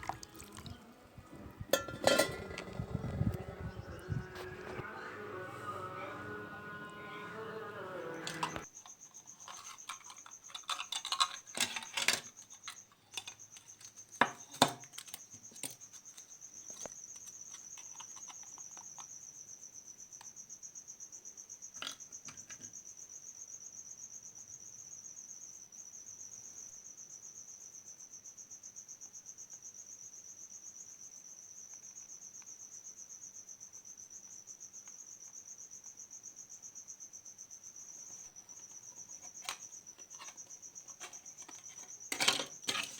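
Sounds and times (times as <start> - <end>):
cricket trilling: 0.0 - 4.7, 8.5 - 42.9.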